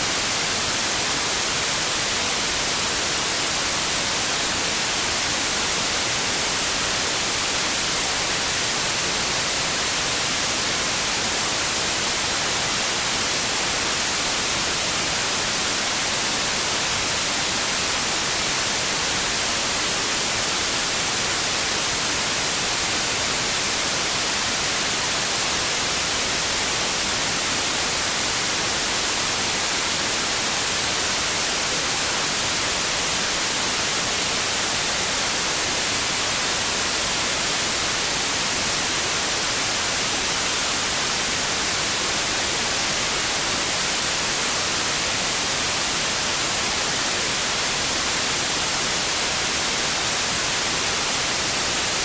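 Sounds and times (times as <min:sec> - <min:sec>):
white noise hiss: 0:00.0 - 0:52.0.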